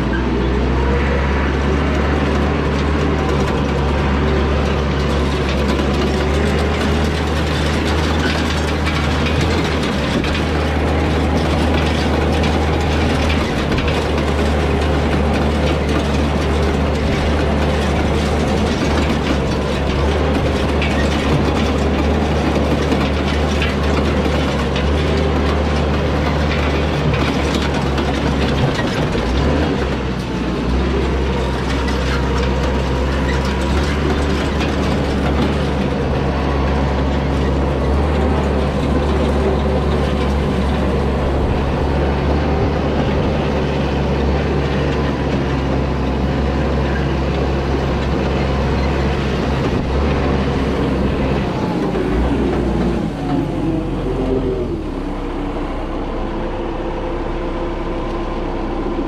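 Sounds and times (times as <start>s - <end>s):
tractor engine running: 0.0s - 59.0s
hay rake clattering: 1.0s - 54.2s.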